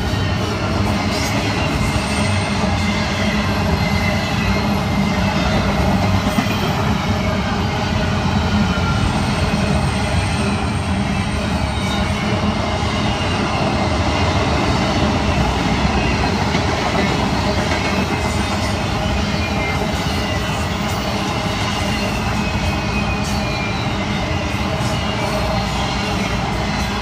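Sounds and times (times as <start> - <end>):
freight train wheels on rail: 0.0 - 27.0.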